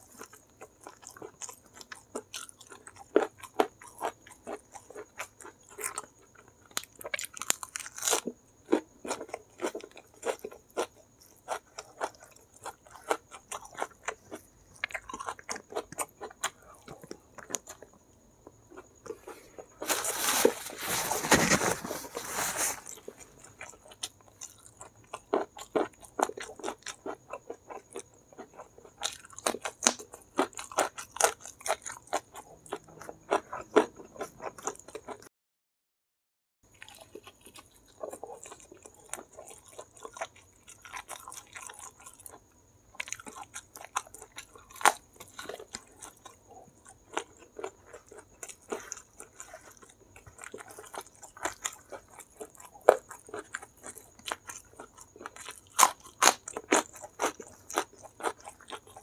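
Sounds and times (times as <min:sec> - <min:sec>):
crunchy chewing of fried food: 0:00.0 - 0:35.3, 0:36.6 - 0:59.0.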